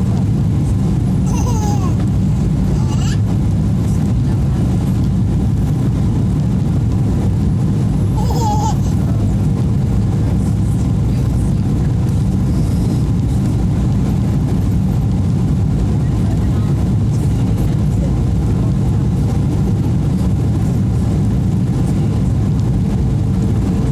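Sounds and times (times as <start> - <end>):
airliner cabin engine rumble: 0.0 - 23.9.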